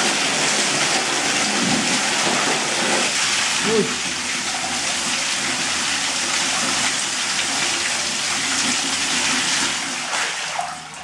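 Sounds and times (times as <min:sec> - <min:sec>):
water jet splashing against wall: 0:00.0 - 0:11.0.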